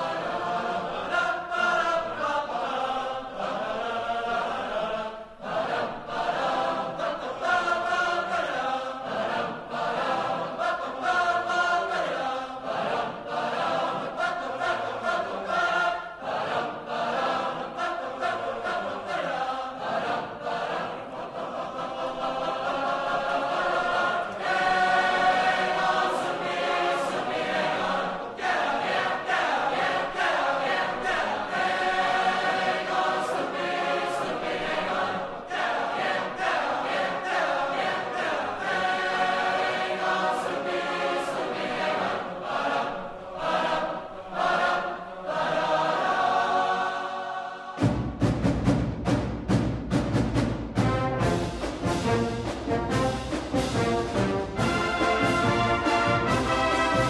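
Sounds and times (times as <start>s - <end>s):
choir singing: 0.0s - 48.2s, 50.8s - 57.0s.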